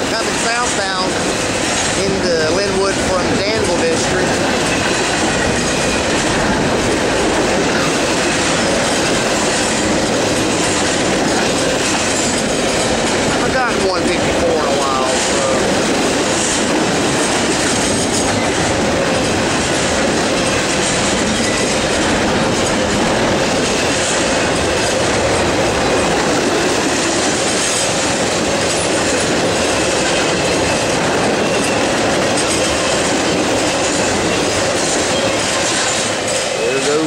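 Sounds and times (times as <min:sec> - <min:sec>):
freight train wheels clattering: 0:00.0 - 0:37.0.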